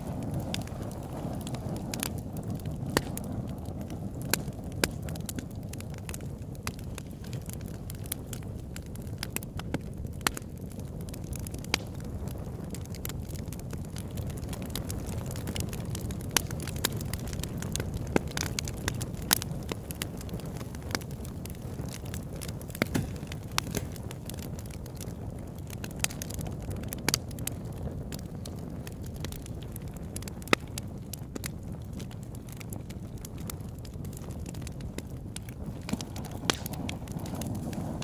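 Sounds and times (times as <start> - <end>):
fire crackles and pops: 0.0 - 38.0
low rumble of flame: 0.0 - 38.0.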